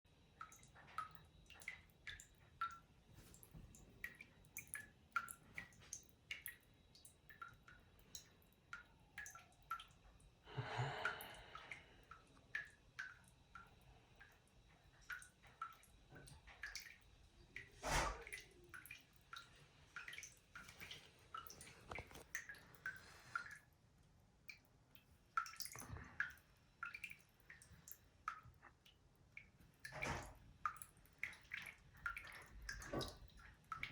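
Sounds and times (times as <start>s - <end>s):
water dripping from faucet: 0.1s - 33.9s.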